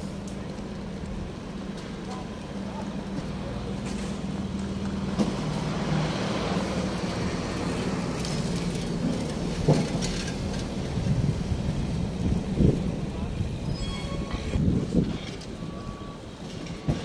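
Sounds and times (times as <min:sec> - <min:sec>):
vehicle engine humming: 0:00.0 - 0:13.7
road noise: 0:00.0 - 0:17.0.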